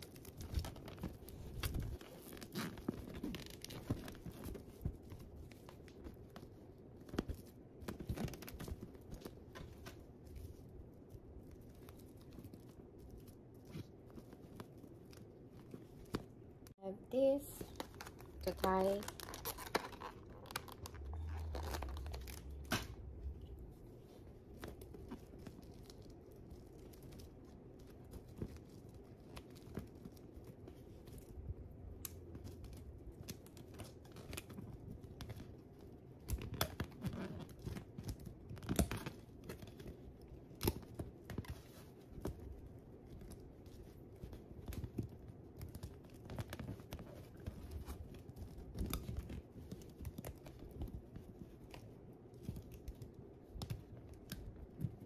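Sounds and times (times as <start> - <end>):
rustling and crinkling plastic: 0.0 - 55.0.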